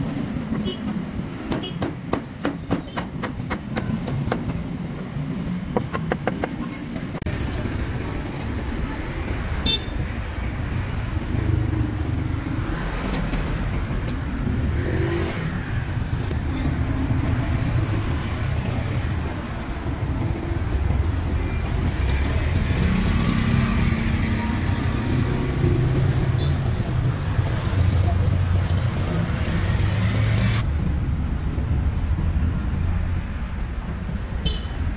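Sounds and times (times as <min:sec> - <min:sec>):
vehicle engines passing: 0:03.6 - 0:34.9.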